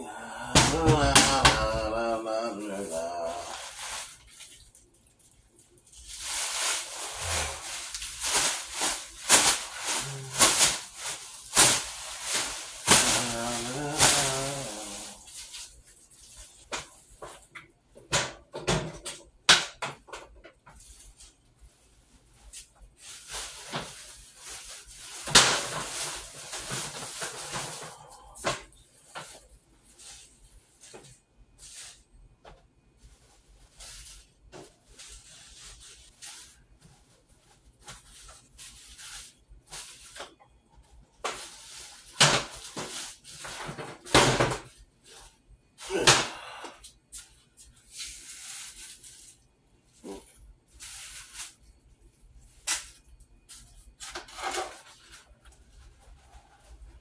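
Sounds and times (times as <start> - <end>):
kitchen rustling and clatter: 3.3 - 46.0, 47.1 - 57.0.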